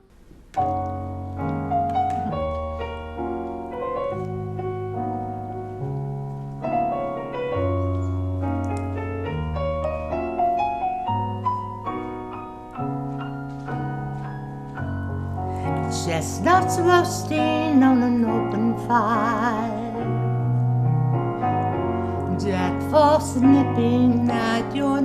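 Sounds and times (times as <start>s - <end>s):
slow gentle piano music: 0.0s - 25.0s.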